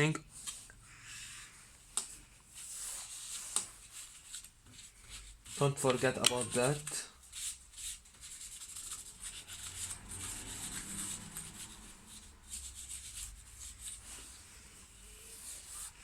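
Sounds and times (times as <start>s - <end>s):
tissue rubbing on metal: 2.5s - 16.0s.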